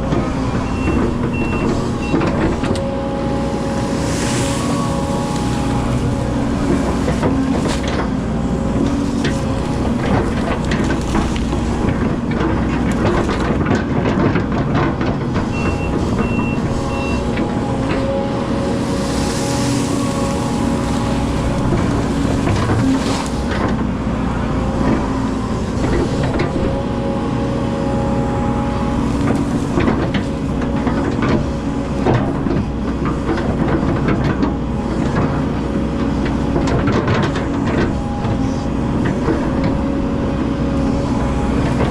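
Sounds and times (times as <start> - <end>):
excavator bucket clanking: 0.0 - 41.9
excavator diesel engine running: 0.0 - 41.9.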